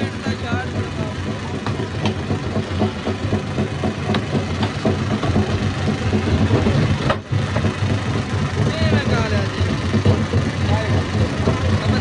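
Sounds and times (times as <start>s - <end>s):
heavy diesel machinery humming: 0.0s - 12.0s.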